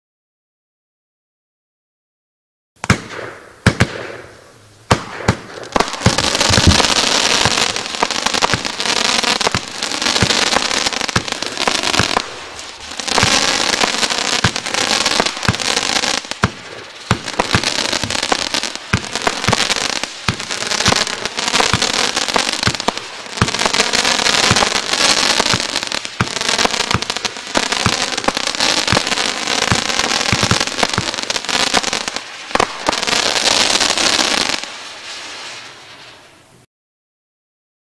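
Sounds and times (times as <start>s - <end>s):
firework launch bangs: 2.8s - 36.4s
firework barrage crackling: 2.8s - 36.7s.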